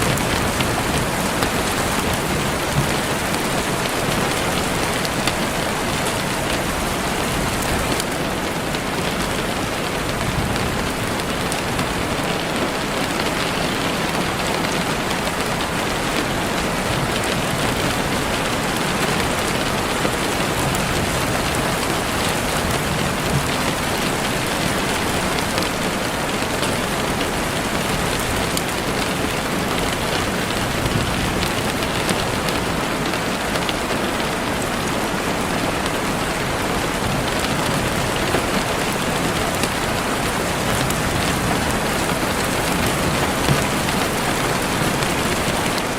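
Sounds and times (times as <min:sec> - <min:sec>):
heavy rain on leaves: 0:00.0 - 0:45.9.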